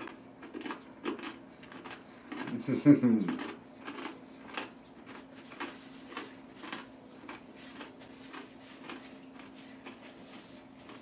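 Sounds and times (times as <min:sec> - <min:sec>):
crunchy chewing: 0:00.0 - 0:11.0
faint steady hum: 0:00.0 - 0:11.0.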